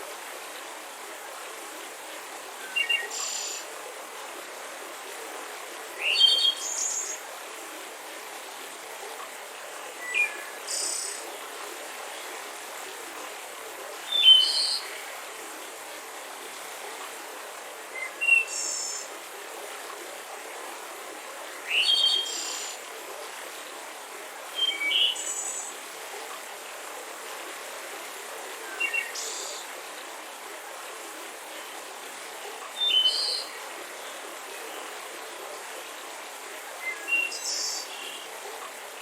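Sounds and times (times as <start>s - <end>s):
mountain river rushing: 0.0s - 39.0s.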